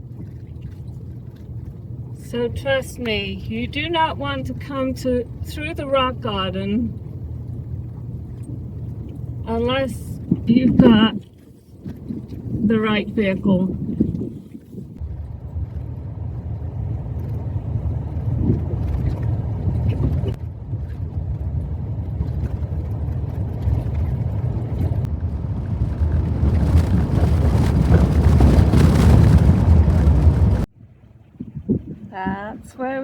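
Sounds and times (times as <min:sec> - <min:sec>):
vehicle rumbling on dirt road: 0:00.0 - 0:32.8.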